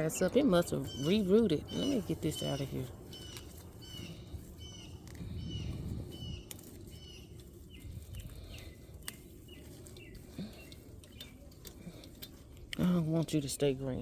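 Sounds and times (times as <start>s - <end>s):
bird chirping: 0.0s - 12.1s
grass being pulled up by hand: 0.0s - 14.0s.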